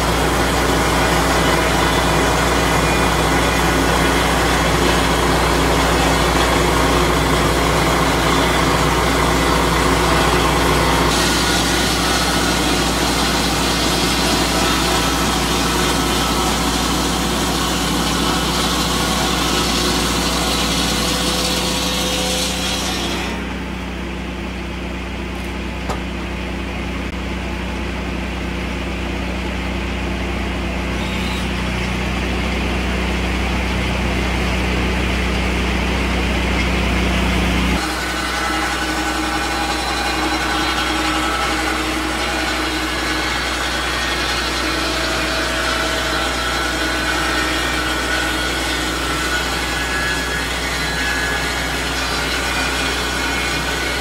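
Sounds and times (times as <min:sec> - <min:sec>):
circular saw blade cutting log: 0:00.0 - 0:24.1, 0:30.7 - 0:34.7, 0:35.8 - 0:54.0
petrol engine running: 0:00.0 - 0:54.0.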